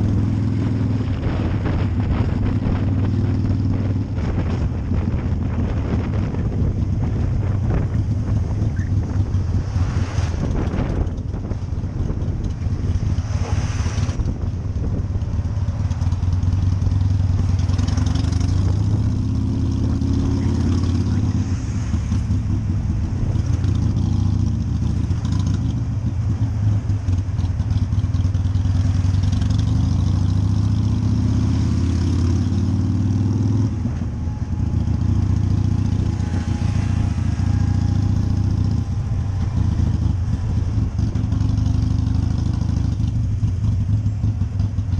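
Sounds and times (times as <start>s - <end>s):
motorcycle engine at low revs: 0.0s - 44.9s
wind buffeting microphone: 0.0s - 44.9s.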